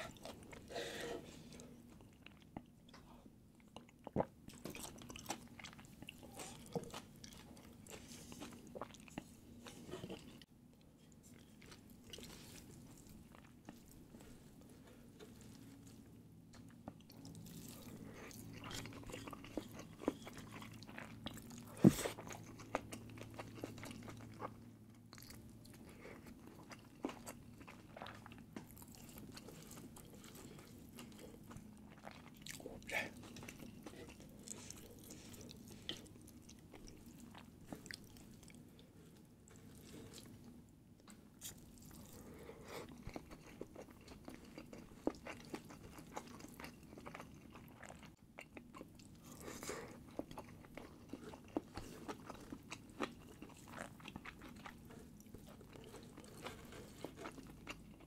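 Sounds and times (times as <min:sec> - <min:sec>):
person chewing food: 0:00.0 - 0:10.5, 0:11.1 - 0:58.0.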